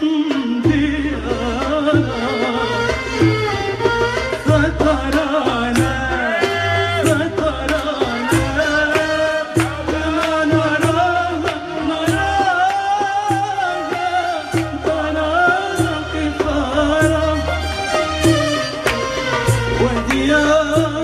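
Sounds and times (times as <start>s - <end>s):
instrumental accompaniment with beat: 0.0s - 21.0s.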